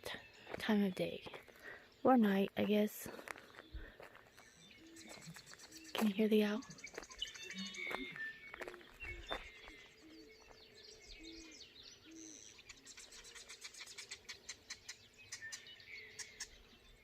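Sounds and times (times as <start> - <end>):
blackbirds chattering and chirping: 0.0 - 17.0.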